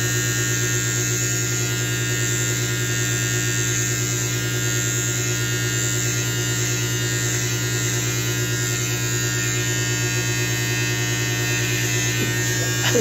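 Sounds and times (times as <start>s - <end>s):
electric hair trimmer buzzing: 0.0s - 13.0s.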